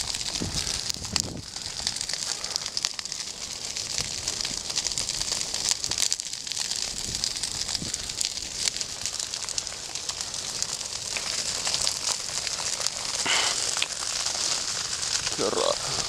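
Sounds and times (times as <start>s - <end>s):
high hiss of fire: 0.0s - 16.0s
wildfire crackling and popping: 0.0s - 16.0s.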